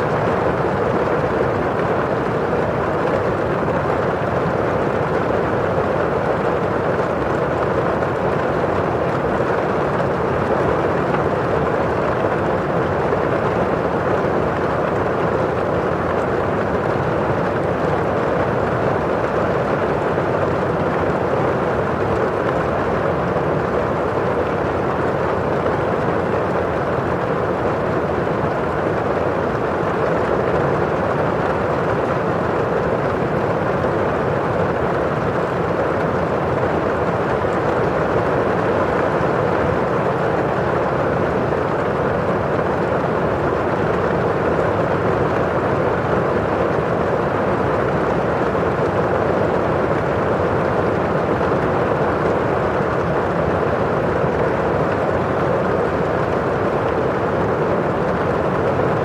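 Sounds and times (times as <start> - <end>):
rain on a windowpane: 0.0 - 59.0.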